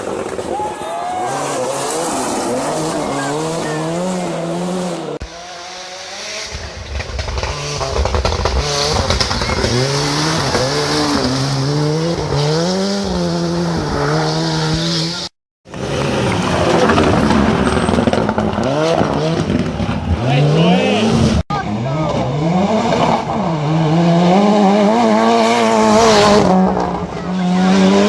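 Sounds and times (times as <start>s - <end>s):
rally car engine revving through gears: 1.4s - 28.0s.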